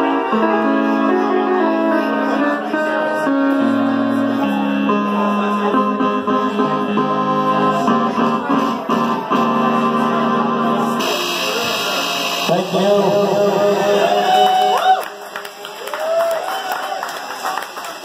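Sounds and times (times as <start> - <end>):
electronic keyboard chords: 0.0 - 14.8.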